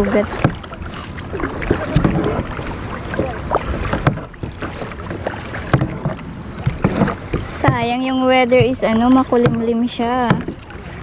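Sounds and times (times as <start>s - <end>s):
paddle knocks: 0.0s - 10.8s
paddle splashing water: 0.0s - 11.0s.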